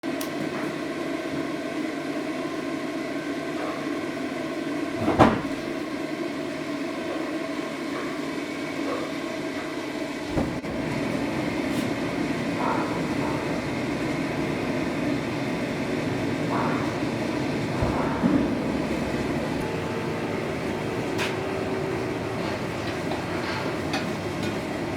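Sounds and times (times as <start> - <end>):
forge humming with rushing air: 0.0 - 24.9.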